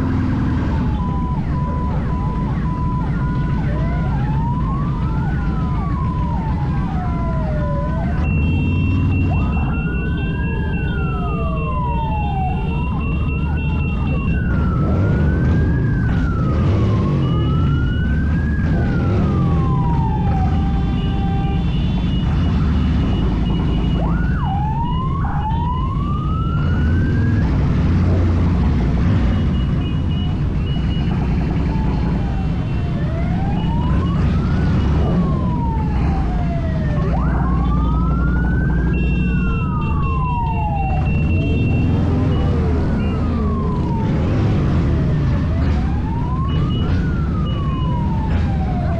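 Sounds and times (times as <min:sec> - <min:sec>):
motorcycle engines rumbling: 0:00.0 - 0:48.9
sirens wailing: 0:00.0 - 0:48.9.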